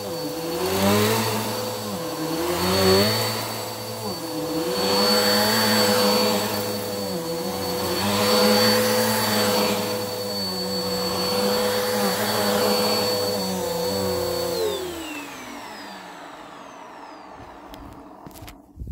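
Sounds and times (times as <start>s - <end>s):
vacuum motor winding down: 0.0s - 18.6s
vacuum cleaner running on carpet: 0.0s - 18.9s.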